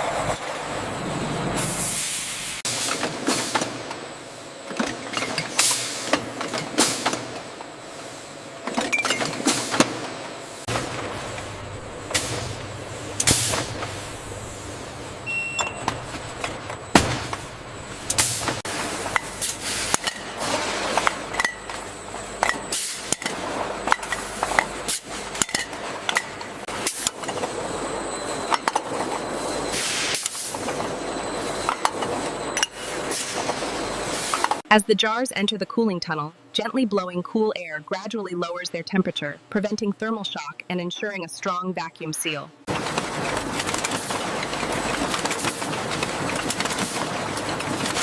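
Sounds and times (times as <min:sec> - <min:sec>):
bottling machinery running: 0:00.0 - 0:34.8, 0:42.0 - 0:48.0.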